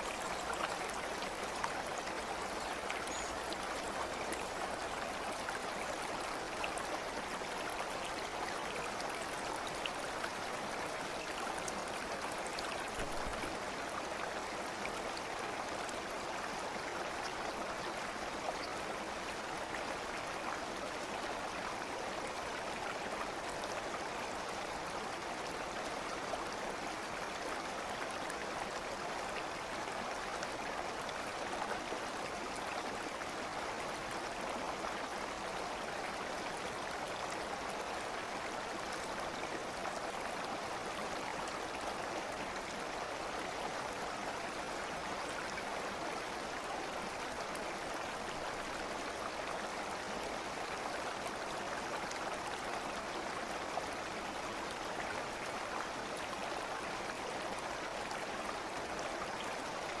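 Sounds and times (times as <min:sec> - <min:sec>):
stream of water burbling: 0:00.0 - 1:00.0.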